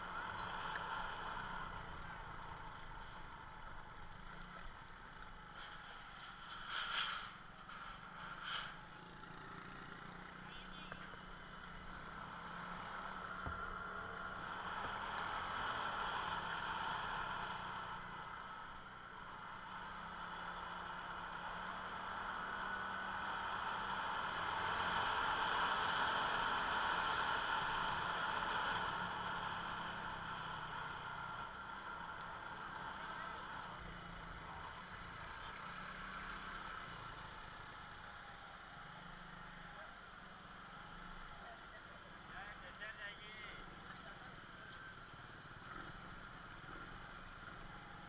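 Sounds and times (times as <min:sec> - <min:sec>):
road noise: 0:00.0 - 0:48.0
vehicle engine: 0:00.0 - 0:48.0.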